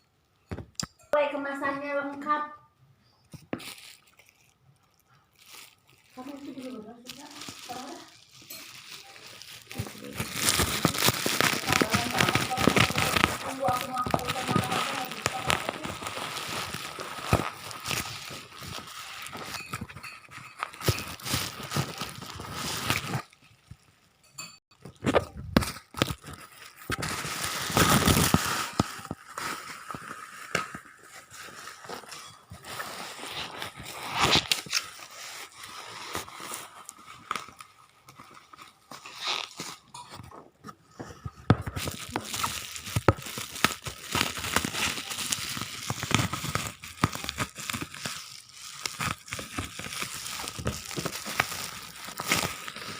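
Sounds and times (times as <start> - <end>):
packaging crinkling and tearing: 3.2 - 24.1, 24.8 - 40.4, 41.2 - 52.9.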